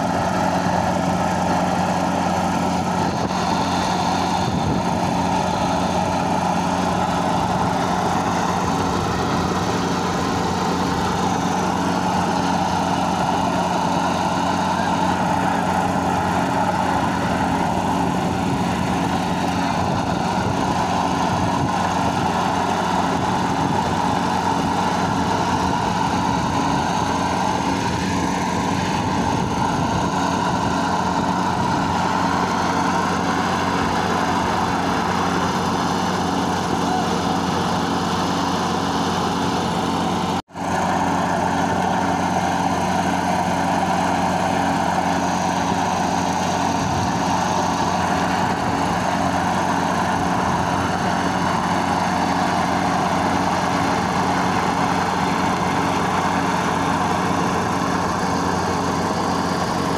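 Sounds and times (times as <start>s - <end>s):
engine-driven machine running: 0.0s - 59.9s.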